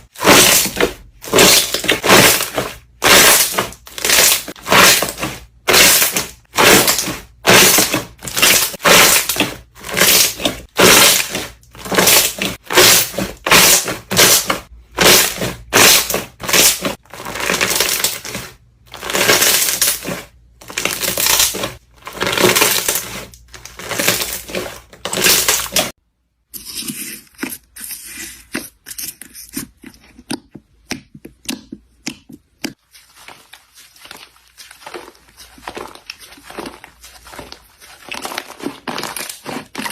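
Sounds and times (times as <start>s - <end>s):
slime squishing and crackling: 0.0s - 26.0s, 28.7s - 39.9s.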